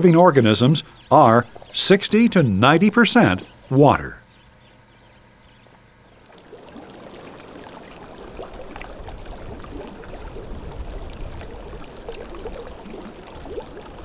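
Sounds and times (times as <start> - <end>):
running water: 0.0 - 14.0.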